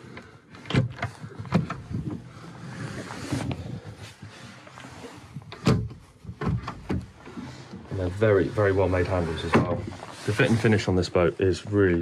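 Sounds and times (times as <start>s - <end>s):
soft rustle of movement: 1.0s - 12.0s.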